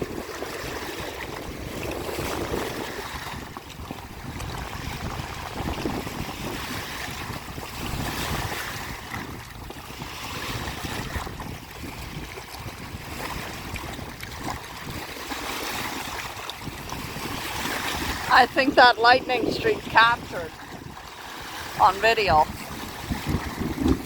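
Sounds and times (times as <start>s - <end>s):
lake waves washing in: 0.0s - 24.0s
wind rumbling on microphone: 0.0s - 24.0s.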